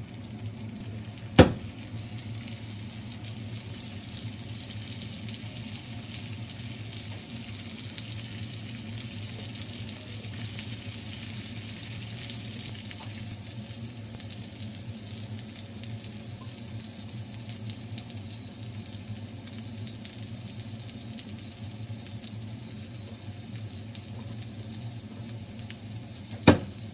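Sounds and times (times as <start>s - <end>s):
food sizzling in a pan: 0.0s - 26.9s
low steady hum: 0.0s - 26.9s.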